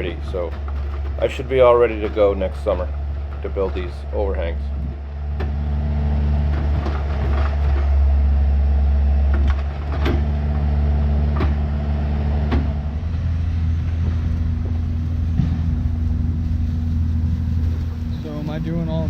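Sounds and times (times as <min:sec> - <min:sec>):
heavy diesel engine running: 0:00.0 - 0:19.0
metal clanks: 0:00.0 - 0:19.0.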